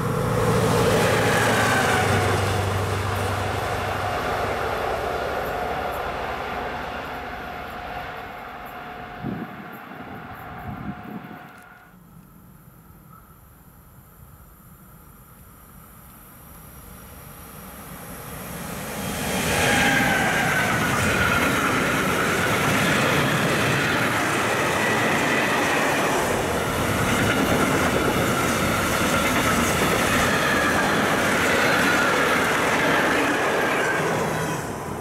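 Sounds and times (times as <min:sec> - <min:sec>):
freight train wheel and rail noise: 0:00.0 - 0:35.0.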